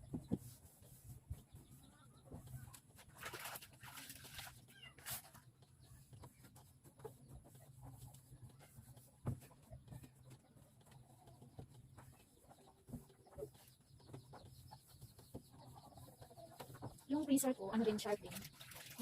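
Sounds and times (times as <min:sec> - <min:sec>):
faint chicken clucking: 0:00.0 - 0:18.7.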